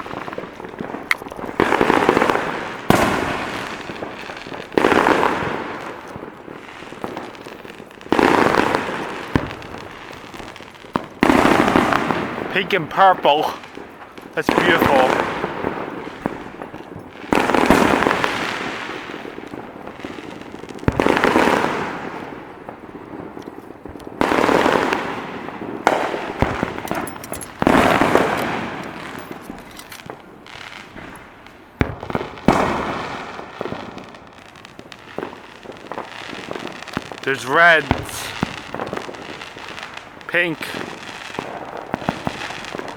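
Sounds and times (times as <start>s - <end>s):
fireworks booming: 0.0s - 42.9s.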